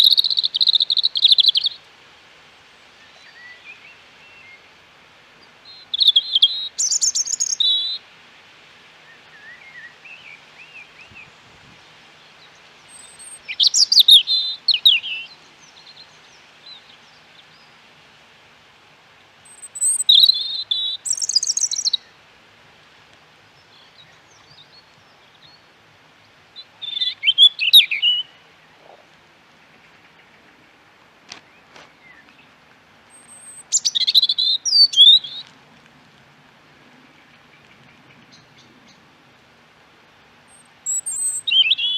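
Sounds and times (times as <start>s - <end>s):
songbird singing: 0.0s - 18.3s, 19.0s - 22.3s, 23.1s - 41.9s
faint birds chirping: 0.0s - 22.3s, 22.9s - 35.7s, 36.6s - 41.9s.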